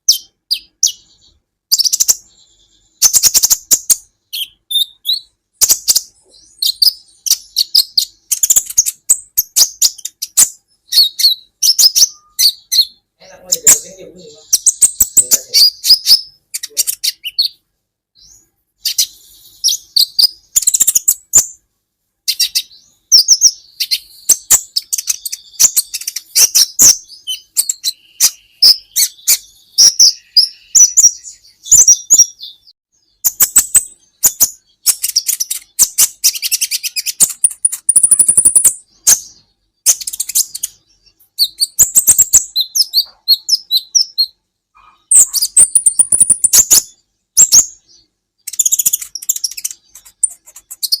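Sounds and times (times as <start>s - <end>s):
bird chirping and trilling: 0.0s - 21.6s, 22.2s - 51.0s.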